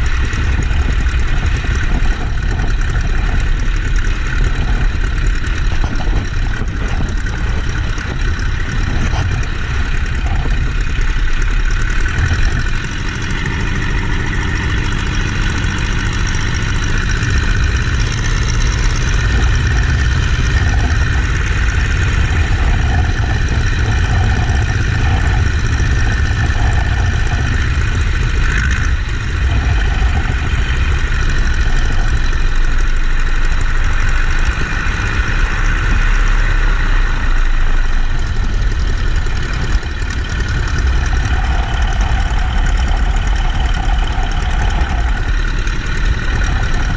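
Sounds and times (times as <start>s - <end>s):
biplane radial engine running: 0.0s - 46.9s.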